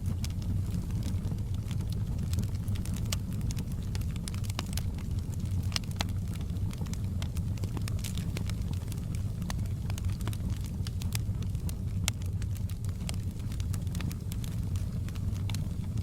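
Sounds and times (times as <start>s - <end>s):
fire crackling and popping: 0.0s - 16.0s
fire low rumble: 0.0s - 16.0s.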